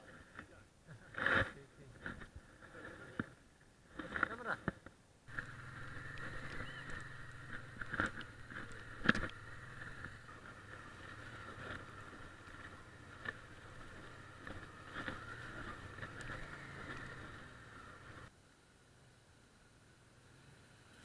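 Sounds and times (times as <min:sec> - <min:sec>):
muffled motorcycle engine: 0:00.0 - 0:18.3.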